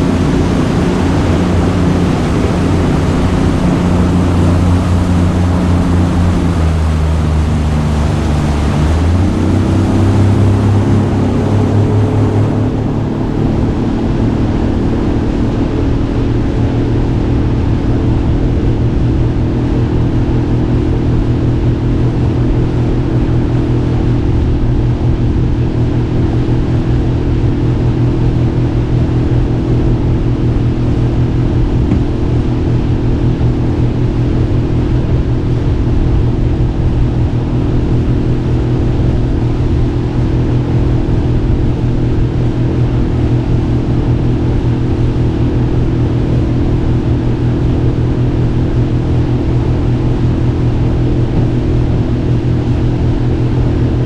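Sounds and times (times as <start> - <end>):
outboard motor running: 0.0 - 54.0
wind and water noise: 0.0 - 54.0.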